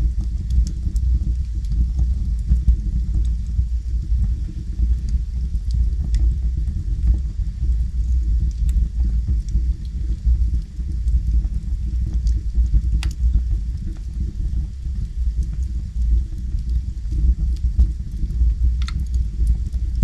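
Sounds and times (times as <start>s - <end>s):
fire crackling and popping: 0.0s - 20.0s
wood fire burning: 0.0s - 20.0s.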